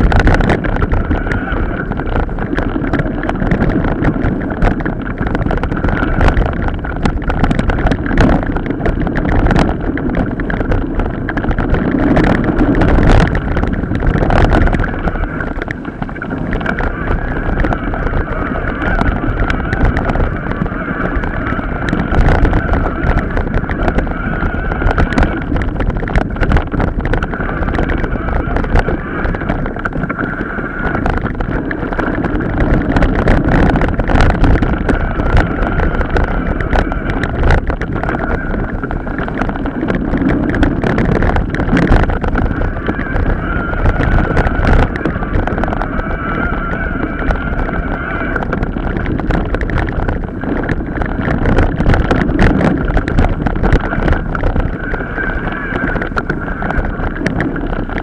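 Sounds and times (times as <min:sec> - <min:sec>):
bike rattling over bumps: 0:00.0 - 0:58.0
high whine: 0:00.0 - 0:58.0
wind on microphone: 0:00.0 - 0:58.0.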